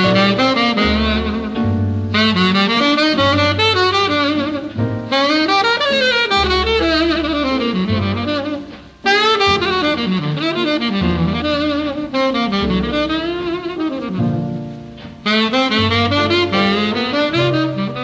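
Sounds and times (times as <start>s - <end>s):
instrumental jazz music: 0.0s - 18.0s.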